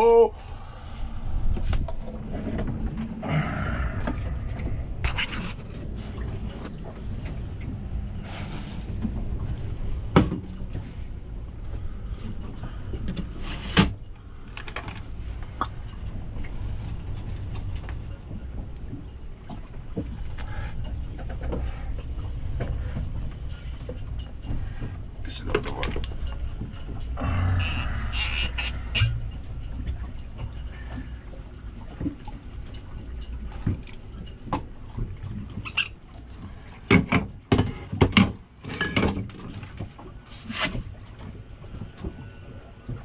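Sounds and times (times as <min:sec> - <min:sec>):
low boat rumble: 0:00.0 - 0:43.0.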